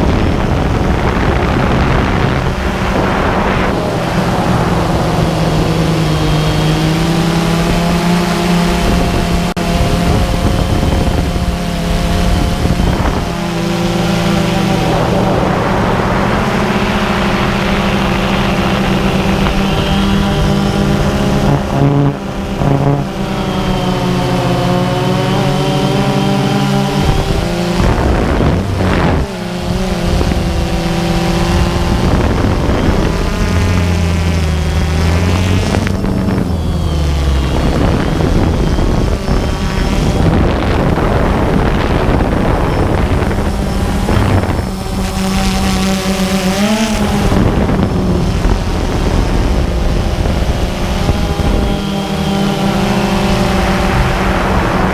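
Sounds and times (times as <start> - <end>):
rushing noise: 0.0 - 45.2, 47.2 - 54.9
drone motors whining: 0.0 - 54.9.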